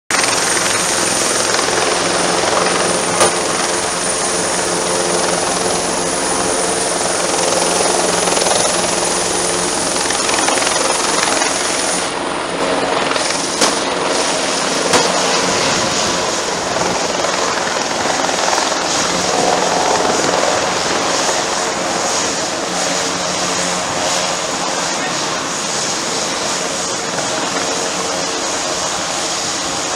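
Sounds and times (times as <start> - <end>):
helicopter turbine and rotor: 0.1 - 29.9.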